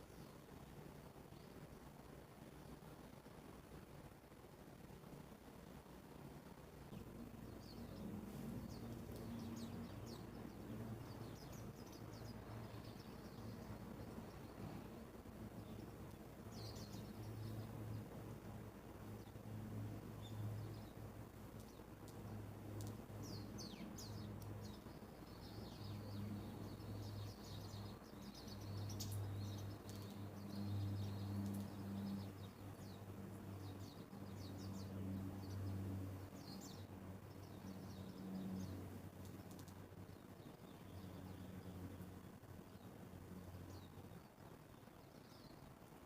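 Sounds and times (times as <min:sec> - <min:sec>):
birds chirping: 0:06.9 - 0:46.0.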